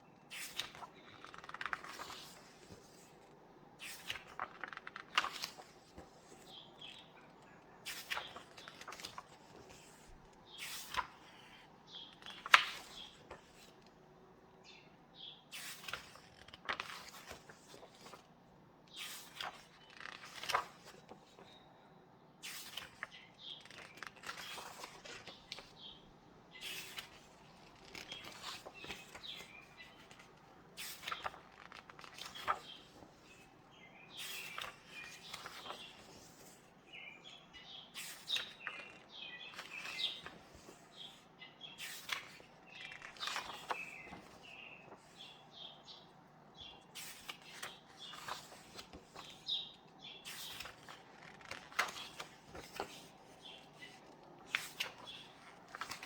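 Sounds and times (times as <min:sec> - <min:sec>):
book pages turning: 0:00.2 - 0:14.2, 0:15.5 - 0:21.6, 0:22.4 - 0:56.0.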